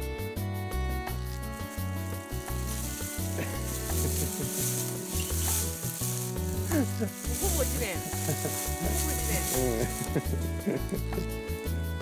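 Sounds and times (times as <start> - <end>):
background music: 0.0 - 12.0
dry leaves rustling: 0.7 - 12.0.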